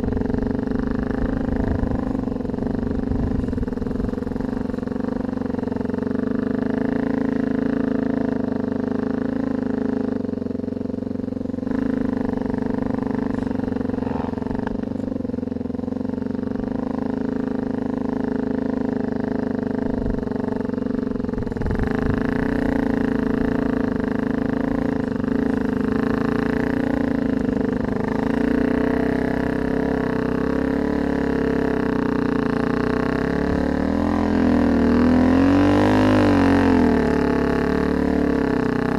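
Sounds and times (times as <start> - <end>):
didgeridoo drone: 0.0 - 38.9.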